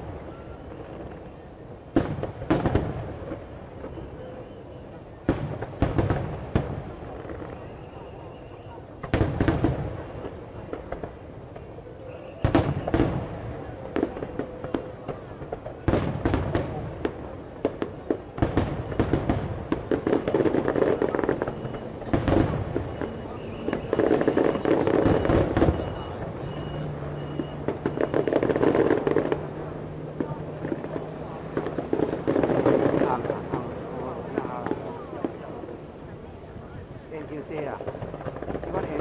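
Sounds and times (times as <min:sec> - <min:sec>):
firework booms: 0:00.0 - 0:39.0
firework crackling: 0:00.0 - 0:39.0.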